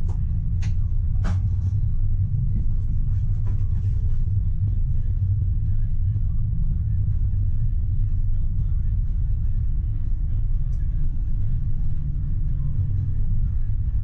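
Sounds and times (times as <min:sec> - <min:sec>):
tram rumbling on track: 0:00.0 - 0:14.0.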